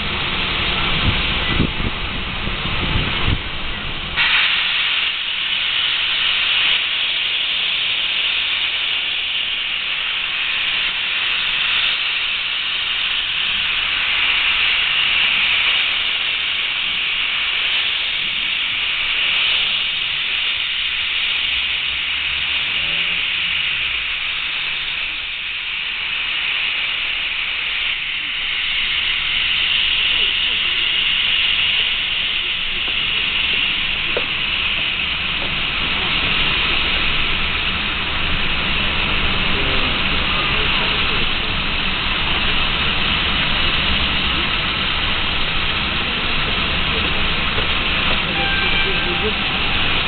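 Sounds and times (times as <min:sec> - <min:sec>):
steam hissing: 0:00.0 - 0:50.0.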